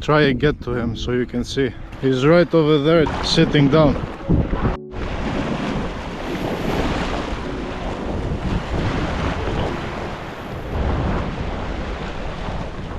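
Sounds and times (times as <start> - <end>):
wind buffeting microphone: 0.0 - 12.9
ocean waves: 1.0 - 12.9.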